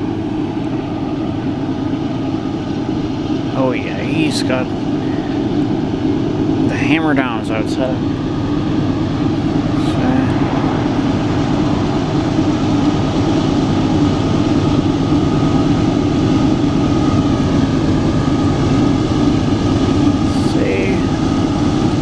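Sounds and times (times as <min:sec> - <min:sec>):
diesel locomotive engine drone: 0:00.0 - 0:22.0
thin constant tone: 0:00.0 - 0:22.0.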